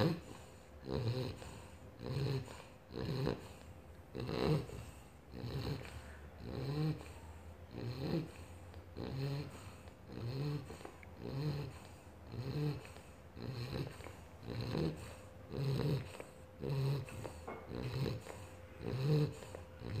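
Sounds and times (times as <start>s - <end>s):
puppy snoring: 0.0s - 20.0s.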